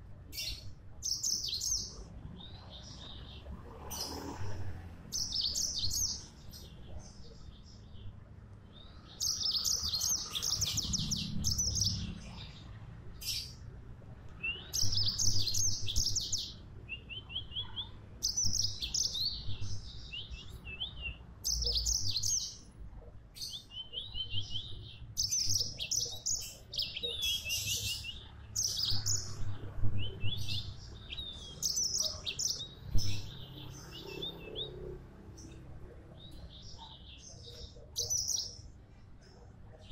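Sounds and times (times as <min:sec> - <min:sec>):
canary singing trills: 0:00.3 - 0:08.1, 0:08.7 - 0:13.6, 0:14.4 - 0:39.9.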